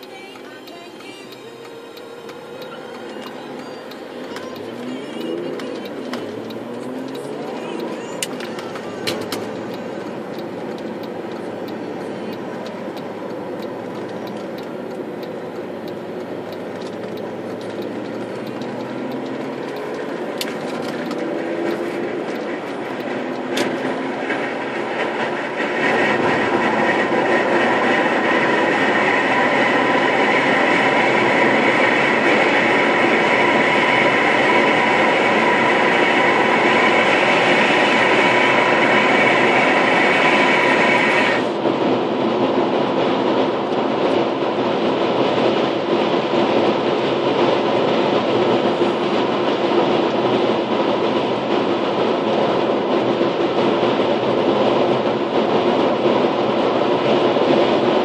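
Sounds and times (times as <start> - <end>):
car engine accelerating: 0.0 - 58.0
road and tyre noise: 0.0 - 58.0.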